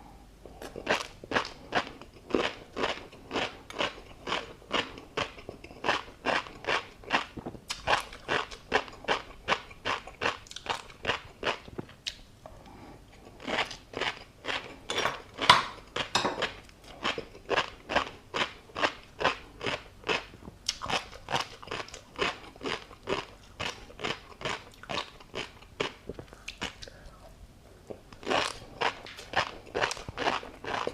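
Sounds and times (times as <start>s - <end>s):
person chewing crunchy food: 0.5s - 30.9s.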